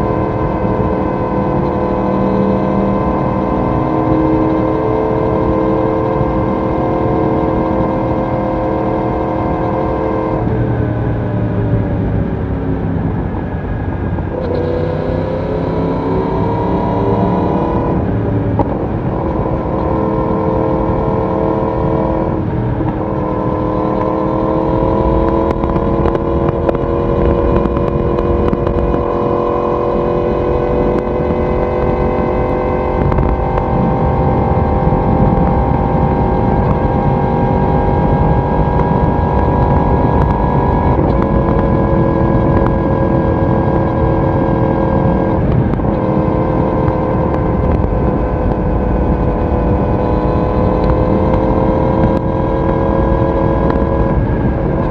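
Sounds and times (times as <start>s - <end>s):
motorcycle exhaust revving: 0.0s - 54.9s
wind and road noise: 0.0s - 54.9s.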